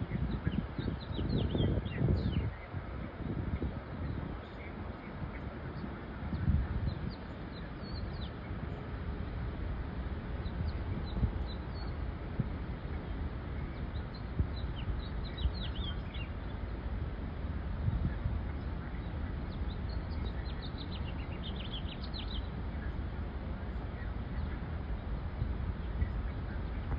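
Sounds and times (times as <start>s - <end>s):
songbirds chirping: 0.0s - 26.9s
steady low rumble: 0.0s - 26.9s.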